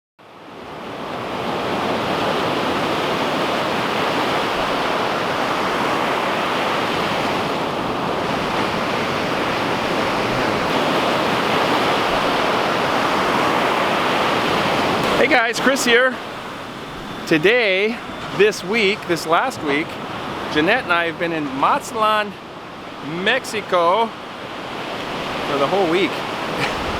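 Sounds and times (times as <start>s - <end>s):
ocean surf washing onto beach: 0.2s - 26.9s.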